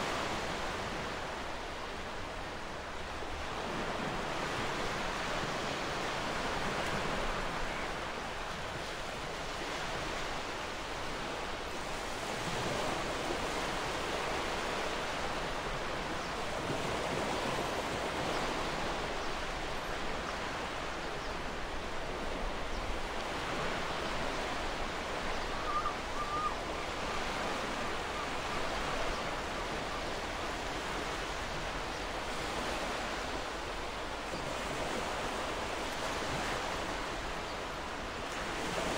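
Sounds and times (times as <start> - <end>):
ocean surf washing: 0.0 - 38.9.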